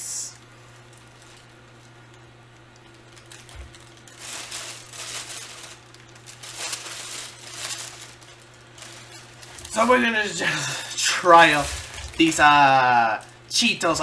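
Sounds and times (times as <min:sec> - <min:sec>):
steady low hum: 0:00.0 - 0:14.0
candy packaging crinkling: 0:00.4 - 0:14.0.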